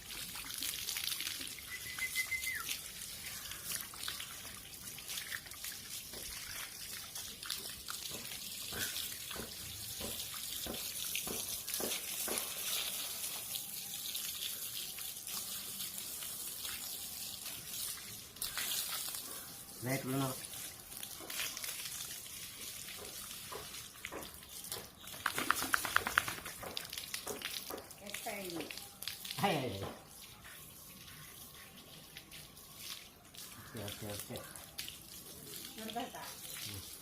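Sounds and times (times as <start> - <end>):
water running and splashing: 0.0 - 37.0.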